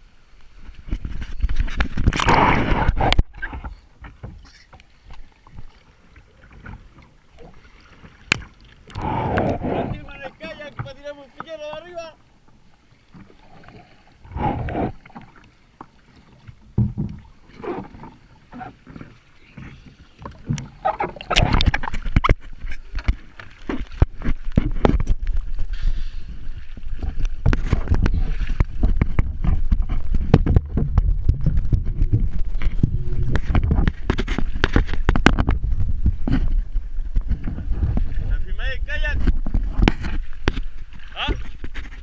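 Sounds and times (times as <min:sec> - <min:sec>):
sea water splashing: 0:00.0 - 0:42.0.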